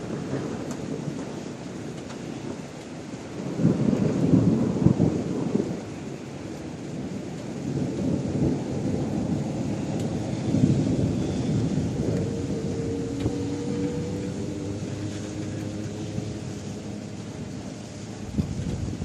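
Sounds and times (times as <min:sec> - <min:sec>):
heavy rain: 0:00.0 - 0:19.0
thunder rumbling: 0:00.0 - 0:19.0.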